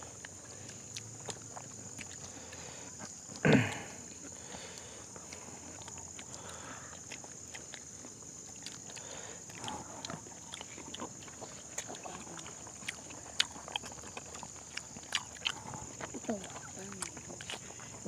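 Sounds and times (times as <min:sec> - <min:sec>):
people chewing with wet smacks: 0:00.0 - 0:18.0
steady high-pitched hiss: 0:00.0 - 0:18.0.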